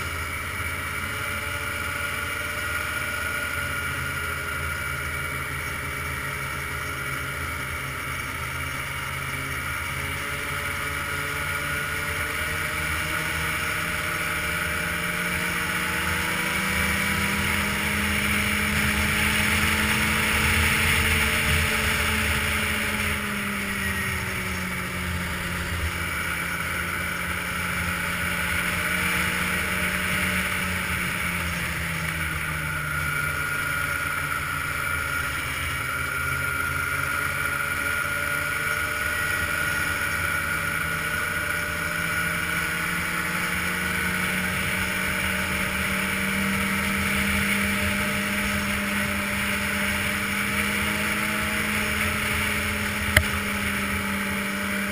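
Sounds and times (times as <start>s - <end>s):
snowmobile engine running: 0.0s - 54.9s
track and wind noise: 0.0s - 54.9s.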